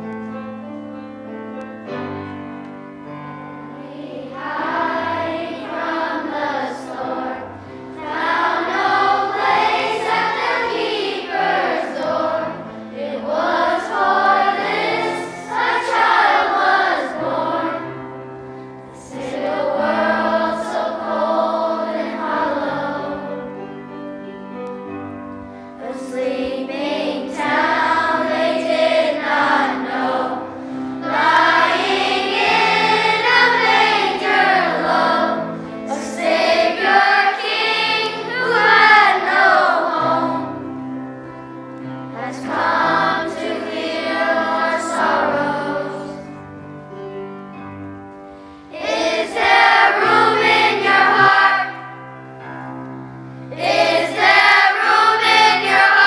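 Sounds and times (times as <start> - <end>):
low instrumental accompaniment: 0.0 - 56.0
children's choir singing: 1.8 - 24.0, 24.6 - 47.2, 48.6 - 56.0.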